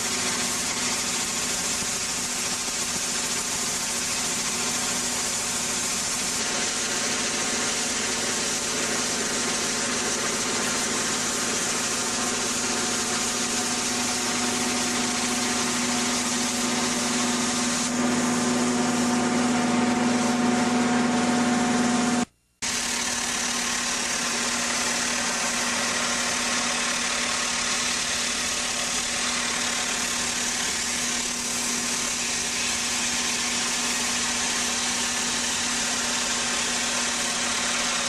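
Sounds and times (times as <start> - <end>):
high-pressure water jet hissing: 0.0 - 38.0
pump humming: 0.0 - 38.0.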